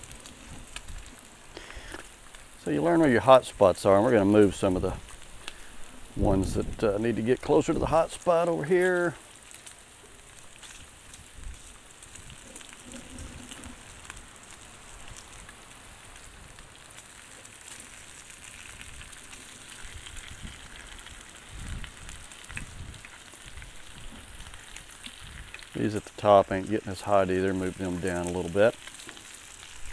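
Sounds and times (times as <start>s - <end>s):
food sizzling on a griddle: 0.0s - 29.9s.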